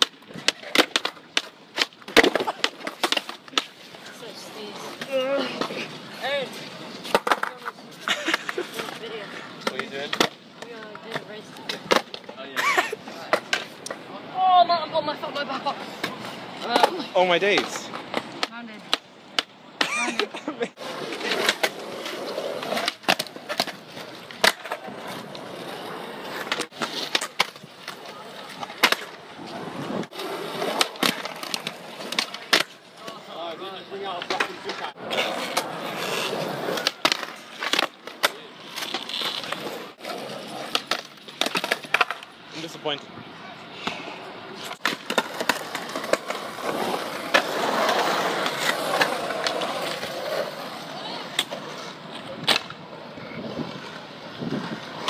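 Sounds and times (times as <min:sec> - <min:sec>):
skateboard clacking on ground: 0:00.0 - 0:14.6, 0:15.2 - 0:43.0, 0:44.6 - 0:55.0
skateboard wheels rolling on concrete: 0:00.0 - 0:55.0.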